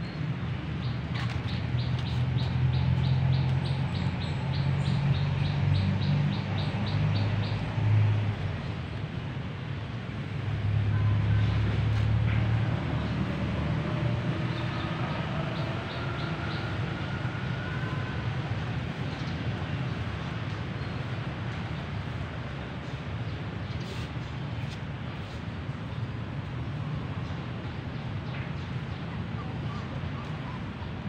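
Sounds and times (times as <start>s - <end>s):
low engine-like hum: 0.0s - 31.0s.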